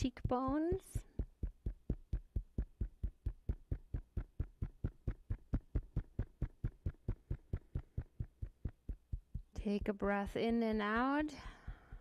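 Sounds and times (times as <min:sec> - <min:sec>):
fingertips tapping on face: 0:00.0 - 0:12.0.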